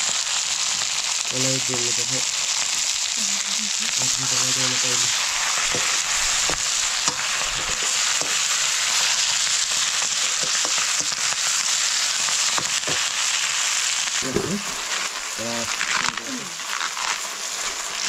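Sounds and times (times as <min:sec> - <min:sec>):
food sizzling in hot oil: 0:00.0 - 0:18.0
oil popping and crackling: 0:00.0 - 0:18.0.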